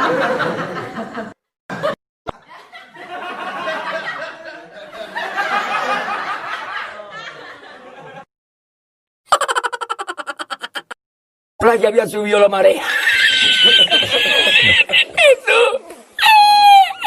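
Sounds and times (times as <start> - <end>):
laughter: 0.0 - 8.3, 9.3 - 11.0, 13.1 - 17.0.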